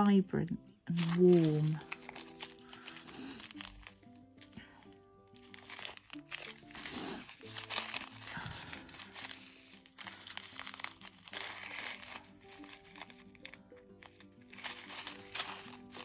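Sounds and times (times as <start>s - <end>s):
soft background music: 0.0s - 16.0s
plastic bags crinkling: 0.9s - 16.0s.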